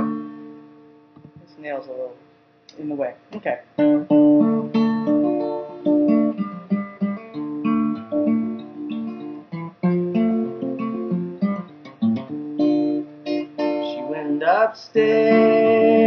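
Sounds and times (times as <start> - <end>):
acoustic guitar playing: 0.0 - 2.0, 3.7 - 16.0.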